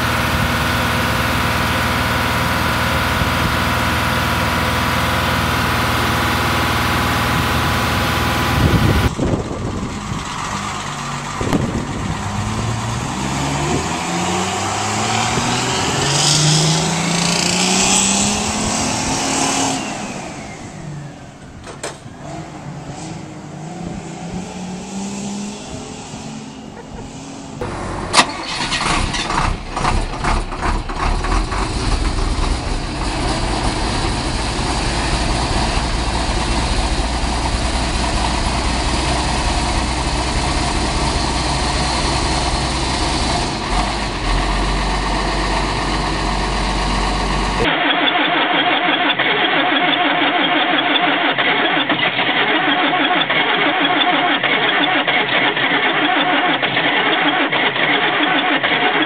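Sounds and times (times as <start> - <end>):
diesel engine cold starting: 0.0 - 24.0, 25.5 - 59.0
bus engine revving: 0.0 - 59.0.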